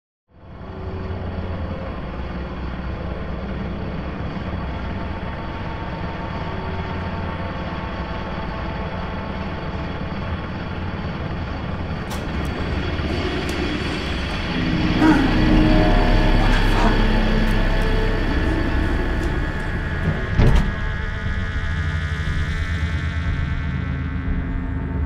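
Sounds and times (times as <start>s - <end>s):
low mechanical machinery drone: 0.3s - 25.0s.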